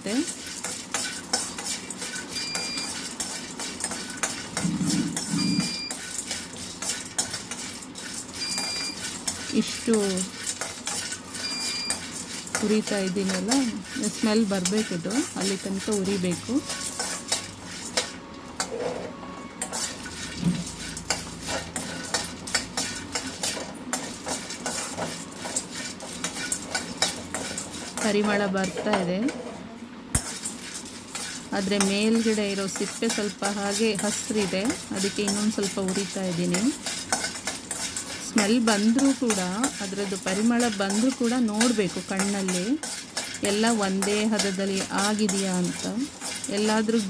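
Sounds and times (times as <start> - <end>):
cardamom pods clinking in pan: 0.1 - 18.2, 19.6 - 29.0, 30.2 - 47.0
metal utensil scraping steel pan: 0.1 - 29.4, 30.2 - 47.0.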